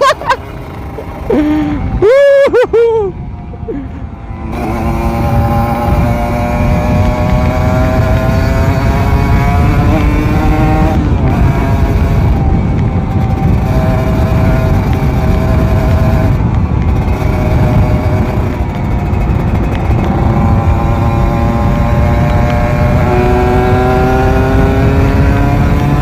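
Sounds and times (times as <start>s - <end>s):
motorcycle engine accelerating: 0.0s - 26.0s
wind rush on microphone: 0.0s - 26.0s.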